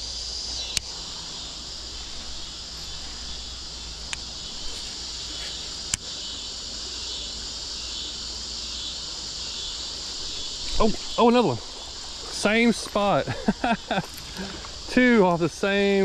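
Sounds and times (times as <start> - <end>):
crickets and insects chirping: 0.0 - 16.0.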